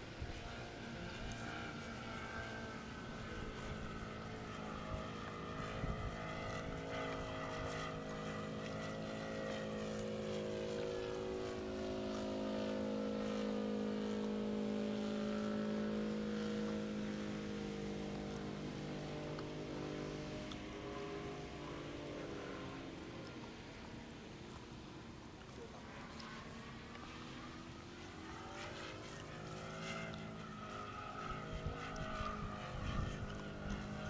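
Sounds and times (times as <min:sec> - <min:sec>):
model airplane propeller drone: 0:00.0 - 0:34.0.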